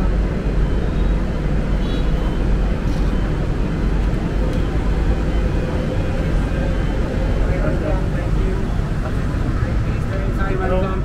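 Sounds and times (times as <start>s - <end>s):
aircraft air systems rumbling: 0.0s - 11.0s.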